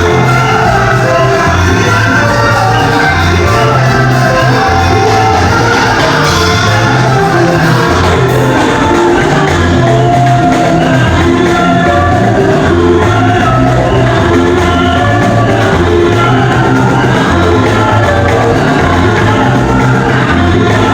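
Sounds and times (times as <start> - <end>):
bass line: 0.0 - 20.9
loud music with singing: 0.0 - 20.9.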